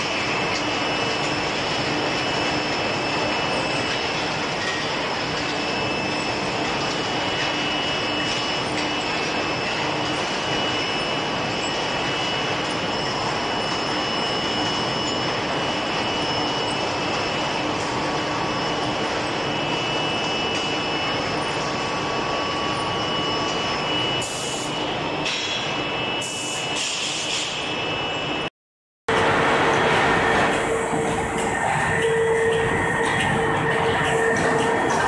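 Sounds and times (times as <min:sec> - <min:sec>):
industrial machinery din: 0:00.0 - 0:28.5, 0:29.1 - 0:35.0.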